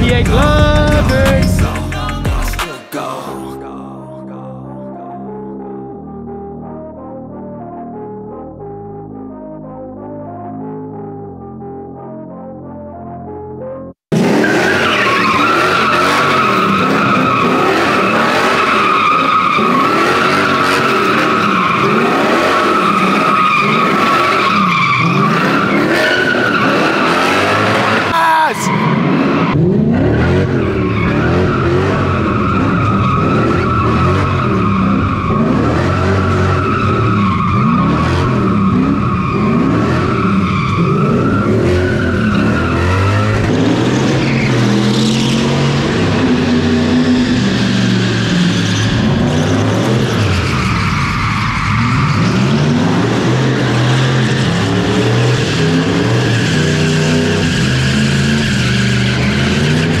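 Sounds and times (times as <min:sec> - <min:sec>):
car engine revving: 0:00.0 - 0:02.6, 0:14.1 - 1:00.0.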